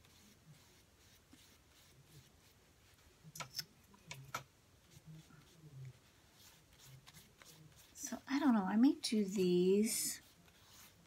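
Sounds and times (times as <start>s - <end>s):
paintbrush dabbing paper: 0.0s - 3.7s, 4.8s - 8.6s, 9.2s - 11.0s.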